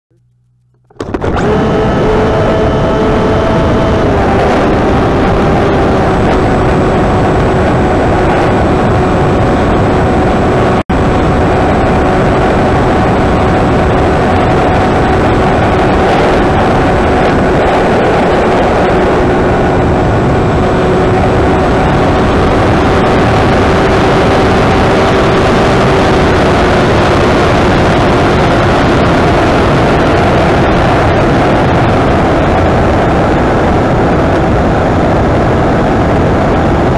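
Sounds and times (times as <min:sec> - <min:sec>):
electric motor and propeller whine: 0:00.9 - 0:36.9
wind noise: 0:00.9 - 0:36.9.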